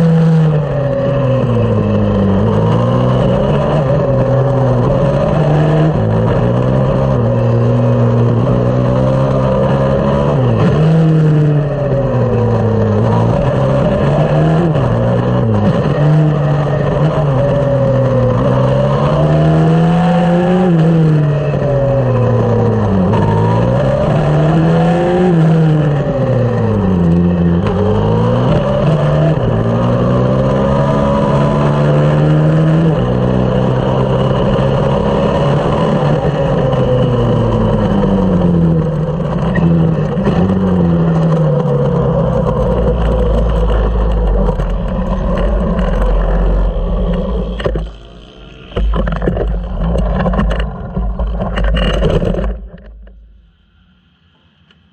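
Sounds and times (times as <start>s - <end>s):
minibike engine racing: 0.0s - 52.8s.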